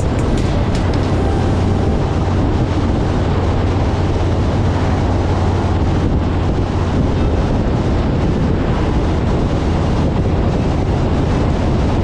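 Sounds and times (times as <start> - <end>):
constant low hum: 0.0 - 11.9
vehicle engine drone: 0.0 - 12.0
wind noise on microphone: 0.0 - 12.0.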